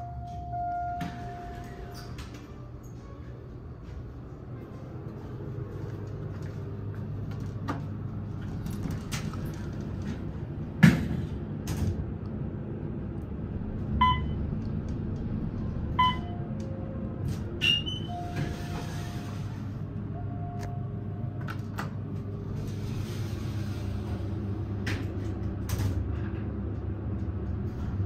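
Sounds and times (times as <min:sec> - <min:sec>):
elevator car humming: 0:00.0 - 0:28.0.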